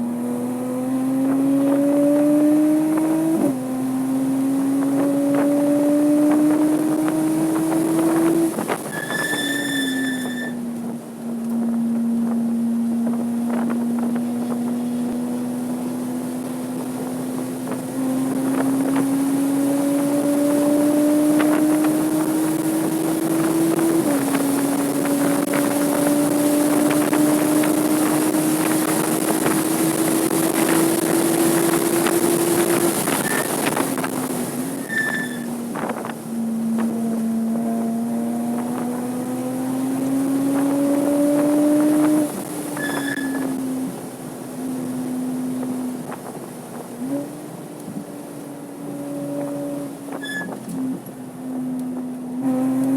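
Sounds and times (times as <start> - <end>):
car engine pulling hard: 0.0 - 52.9
wind rush: 4.8 - 48.5.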